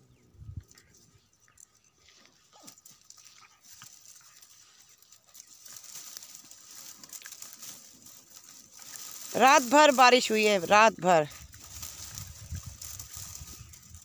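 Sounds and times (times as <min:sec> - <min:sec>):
scuffling in dry grass: 0:00.1 - 0:14.0.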